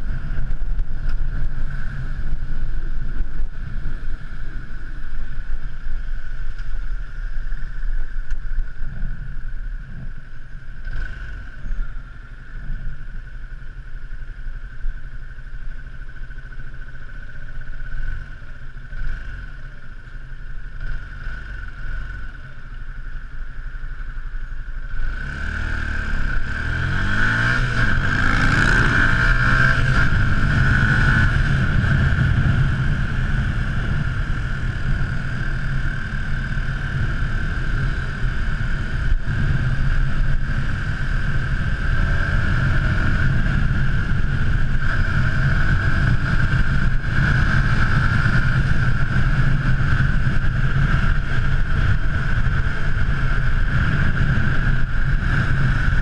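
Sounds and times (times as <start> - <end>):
motorcycle engine revving: 0.0 - 22.9, 24.0 - 56.0
wind and road noise: 0.0 - 56.0.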